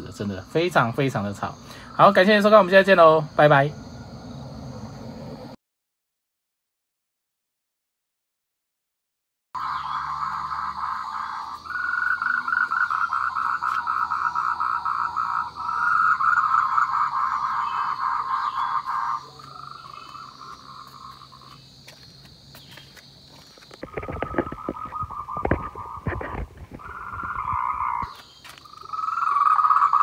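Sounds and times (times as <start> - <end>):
tree frogs calling: 0.0 - 5.1, 9.6 - 30.0.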